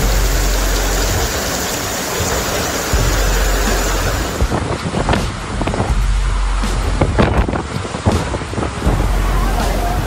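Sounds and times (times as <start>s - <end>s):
heavy rain on street: 0.0s - 10.0s
rushing floodwater: 0.0s - 10.0s.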